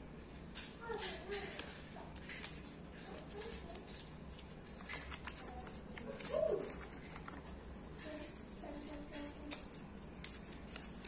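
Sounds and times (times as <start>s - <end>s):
pen and paper handled on table: 0.6s - 11.0s.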